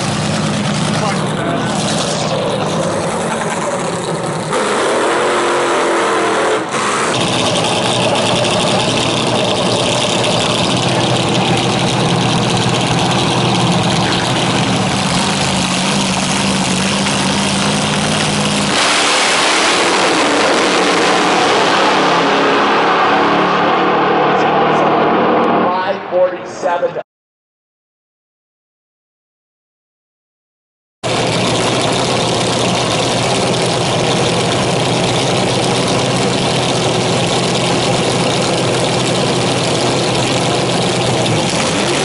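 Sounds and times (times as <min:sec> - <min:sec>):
dragster engine roaring: 0:00.0 - 0:26.7, 0:31.0 - 0:42.0.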